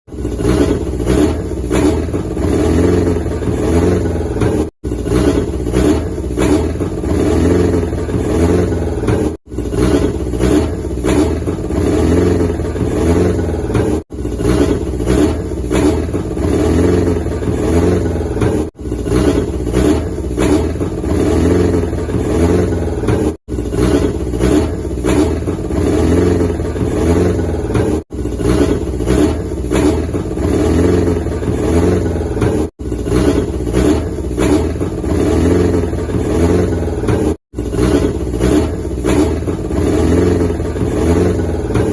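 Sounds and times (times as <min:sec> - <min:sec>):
old engine running: 0:00.1 - 0:41.9.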